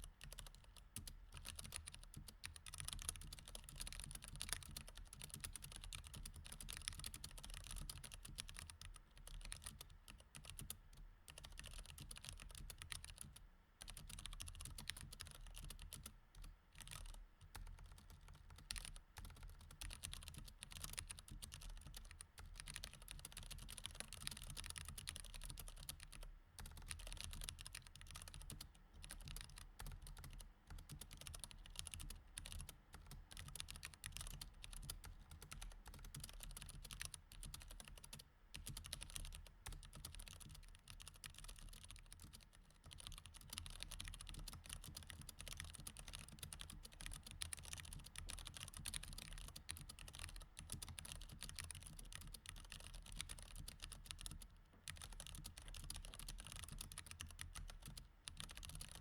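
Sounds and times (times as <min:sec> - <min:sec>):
mechanical keyboard typing: 0:00.2 - 0:59.0.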